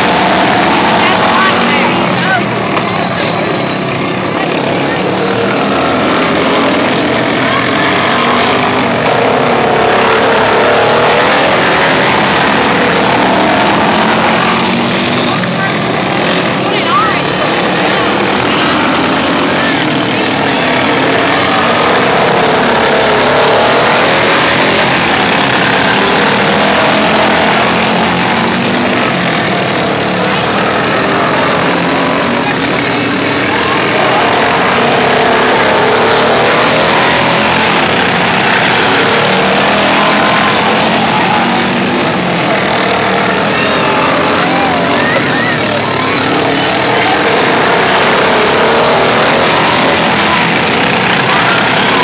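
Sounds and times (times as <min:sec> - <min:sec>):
racing lawn mower engines: 0:00.0 - 0:52.0.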